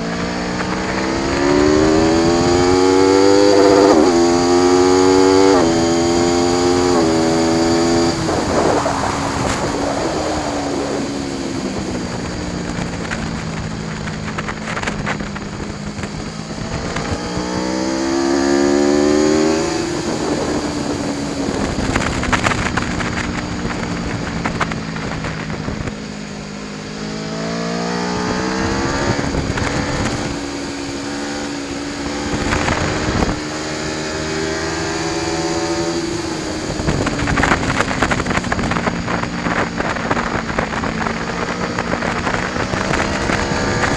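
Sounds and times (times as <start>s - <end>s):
motorcycle engine accelerating: 0.0s - 43.9s
wind rush: 0.0s - 43.9s.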